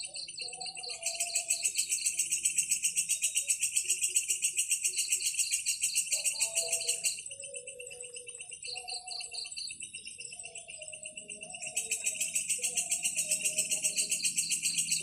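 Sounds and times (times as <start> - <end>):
insect rattling pulsed trill: 0.0 - 15.0
insect slow steady pulsing: 0.0 - 15.0.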